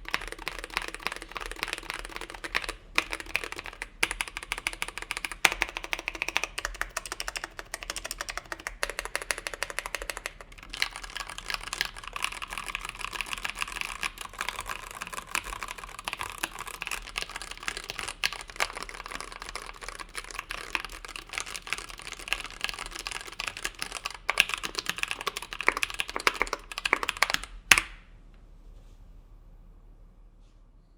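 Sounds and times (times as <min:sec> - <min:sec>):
fast mechanical keyboard typing: 0:00.0 - 0:27.9.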